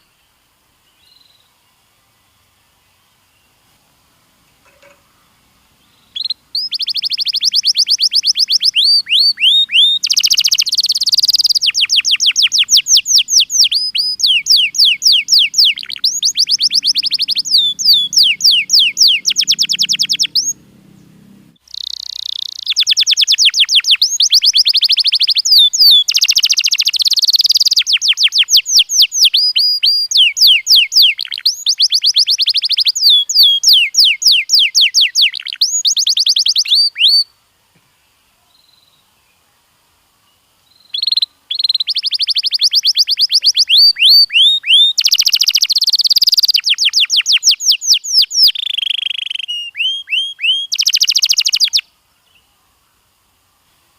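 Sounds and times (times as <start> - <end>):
canary singing trills: 4.6 - 37.3, 40.6 - 52.5.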